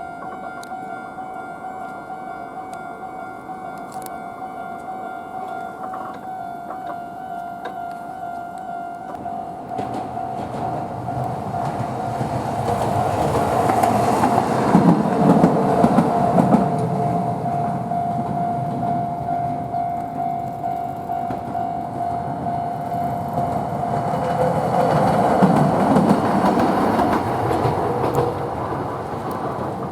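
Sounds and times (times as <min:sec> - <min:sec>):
level-crossing warning bell ringing: 0:00.0 - 0:29.9
tram wheels passing: 0:00.0 - 0:29.9.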